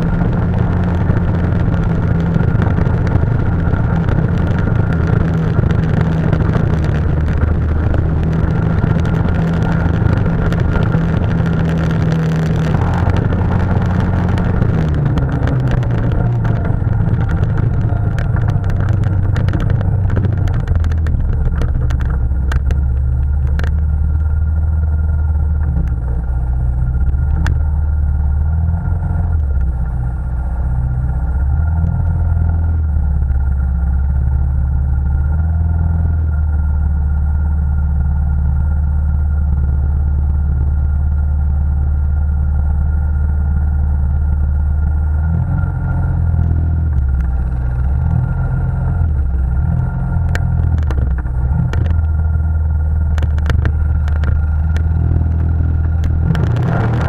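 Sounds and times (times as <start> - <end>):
quad engine: 0.0 - 57.0.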